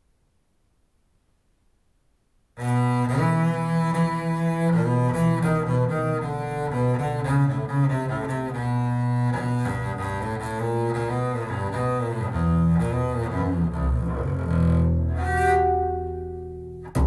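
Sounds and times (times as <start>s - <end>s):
low bowed strings music: 2.6s - 17.0s.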